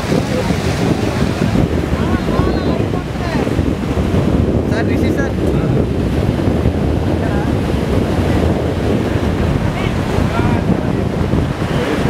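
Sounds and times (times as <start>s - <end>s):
surf breaking on a beach: 0.0s - 12.0s
wind buffeting microphone: 0.0s - 12.0s.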